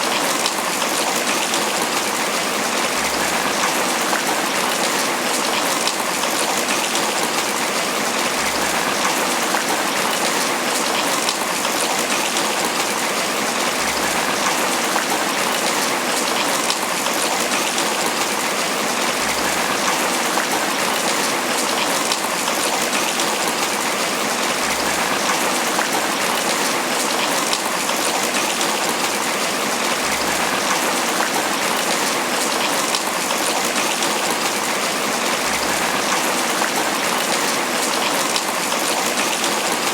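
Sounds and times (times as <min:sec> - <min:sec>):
rain on broad leaves: 0:00.0 - 0:39.9.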